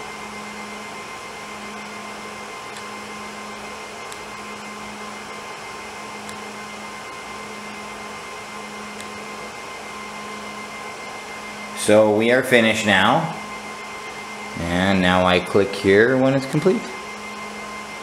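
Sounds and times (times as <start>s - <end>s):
fan whirring with hum: 0.0s - 18.0s.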